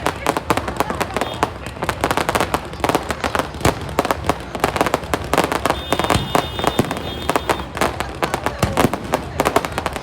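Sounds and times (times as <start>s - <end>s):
fireworks cracking and banging: 0.0s - 10.0s.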